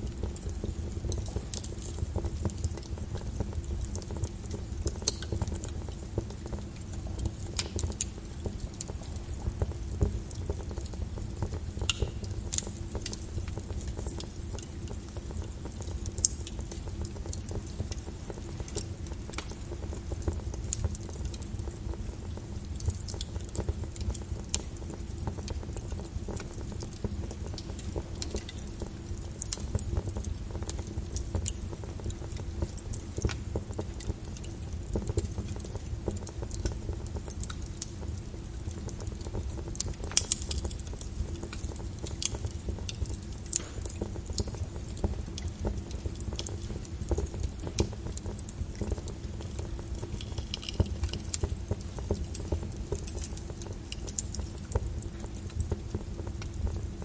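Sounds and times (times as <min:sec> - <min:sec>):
fire low rumble: 0:00.0 - 0:57.0
fire snaps and pops: 0:00.0 - 0:57.0.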